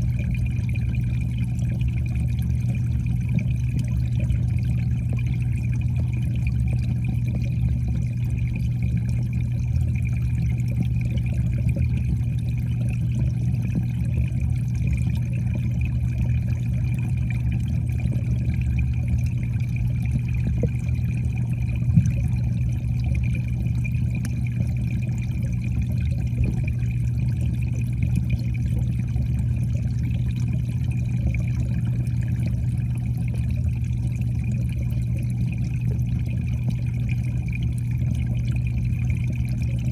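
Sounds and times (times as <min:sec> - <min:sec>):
constant low hum: 0:00.0 - 0:39.9
muffled underwater pond sound: 0:00.0 - 0:39.9.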